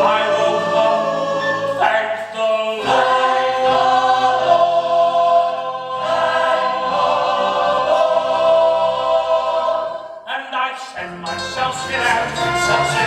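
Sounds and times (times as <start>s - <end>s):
chorus singing in harmony: 0.0s - 10.4s, 11.0s - 13.0s.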